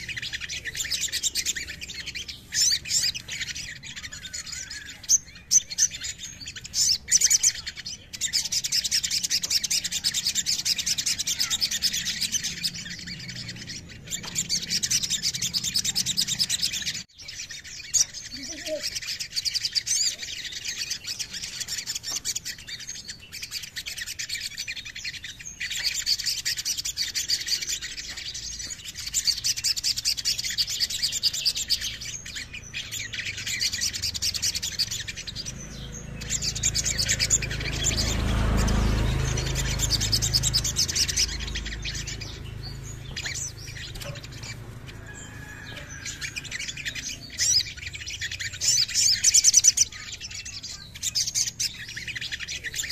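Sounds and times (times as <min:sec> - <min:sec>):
bird singing high trills: 0:00.0 - 0:52.9.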